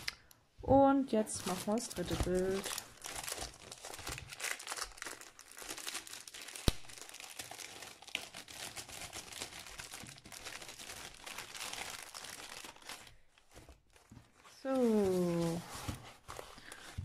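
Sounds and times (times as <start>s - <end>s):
plastic packaging crinkling: 1.2s - 17.0s.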